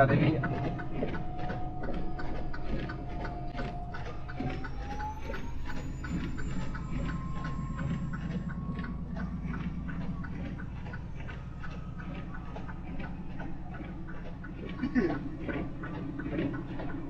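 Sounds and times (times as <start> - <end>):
even ticking: 0.0 - 17.0
rising engine whine: 0.0 - 17.0
truck engine and road rumble: 0.0 - 17.0.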